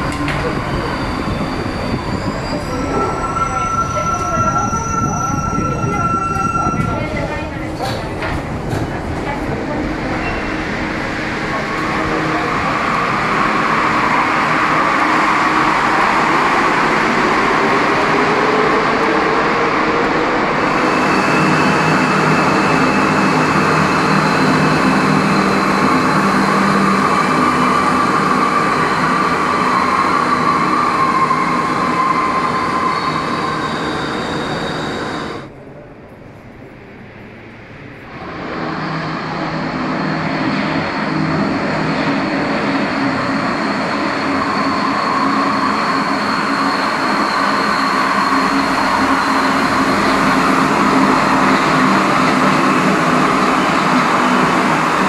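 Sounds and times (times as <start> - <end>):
metro train rolling rush: 0.0 - 55.0.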